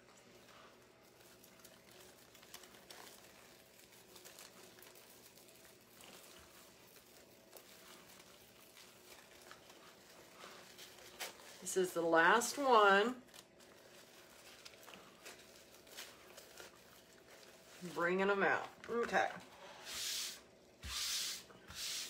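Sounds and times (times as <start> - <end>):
ribbon and mesh rustling: 0.1 - 19.3.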